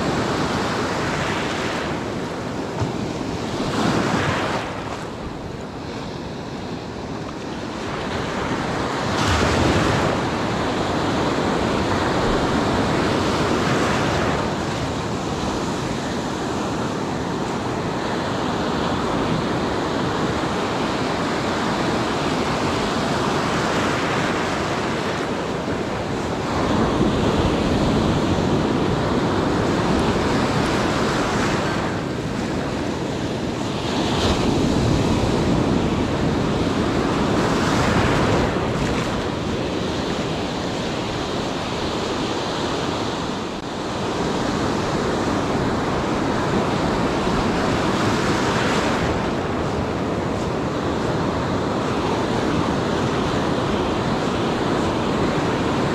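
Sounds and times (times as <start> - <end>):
surf washing onto beach: 0.0 - 55.9
wind buffeting microphone: 0.0 - 55.9.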